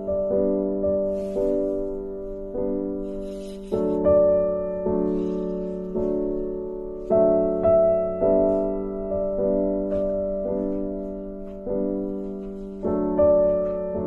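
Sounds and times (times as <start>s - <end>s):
slow piano notes and chords: 0.0s - 14.0s.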